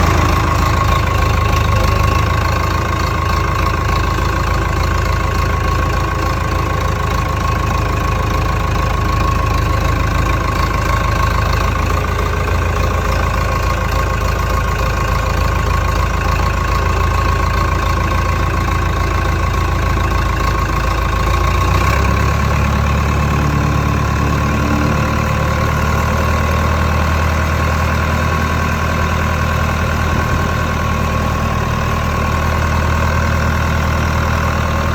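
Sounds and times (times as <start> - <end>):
diesel tractor engine idling: 0.0 - 34.9.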